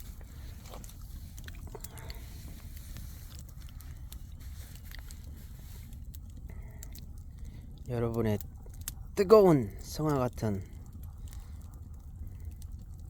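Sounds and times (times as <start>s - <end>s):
campfire crackling: 0.0s - 13.0s
low fire rumble: 0.0s - 13.0s
pops and snaps of fire: 0.0s - 13.0s.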